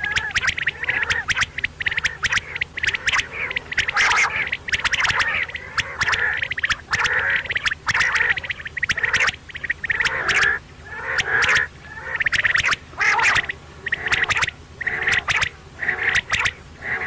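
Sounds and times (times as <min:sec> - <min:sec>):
quail calling: 0:00.0 - 0:17.0.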